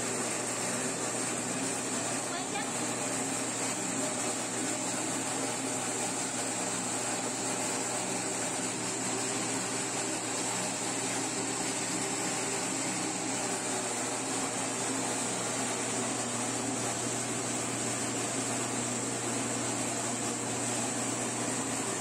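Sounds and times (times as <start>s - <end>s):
grain mill grinding: 0.0s - 22.0s.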